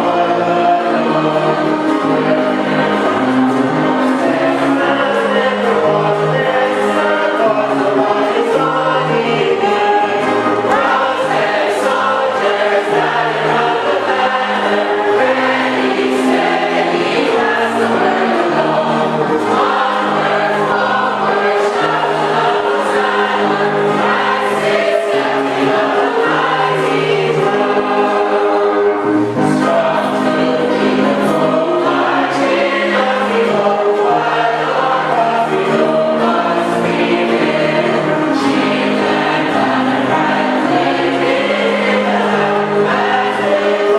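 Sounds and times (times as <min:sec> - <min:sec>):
congregation singing a hymn: 0:00.0 - 0:43.9.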